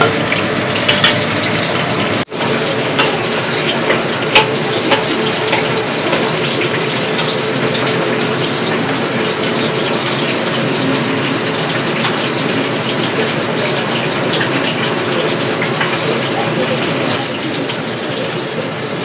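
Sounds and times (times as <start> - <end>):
range hood fan running: 0.0 - 19.0
shrimp sizzling in a wok: 0.0 - 19.0.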